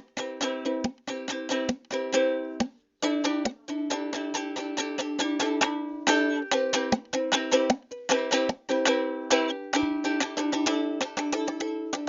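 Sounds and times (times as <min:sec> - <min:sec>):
ukulele strumming: 0:00.0 - 0:12.0.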